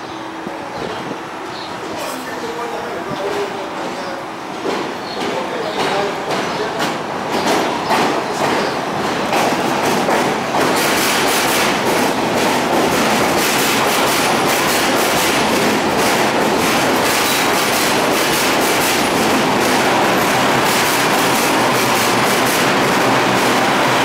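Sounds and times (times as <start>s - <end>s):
subway train rolling past: 0.0s - 24.0s.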